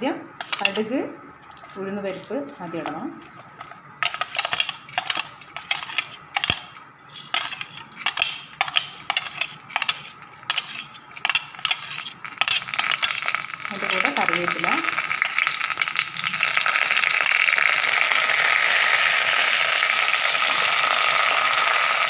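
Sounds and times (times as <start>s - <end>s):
oil sizzling: 2.8s - 22.0s
seeds popping in hot oil: 4.0s - 22.0s.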